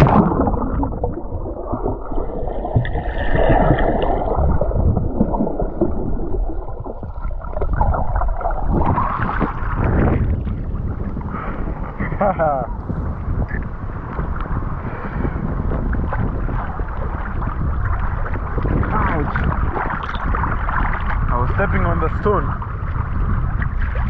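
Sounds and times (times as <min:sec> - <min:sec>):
muffled underwater water sloshing: 0:00.0 - 0:24.0.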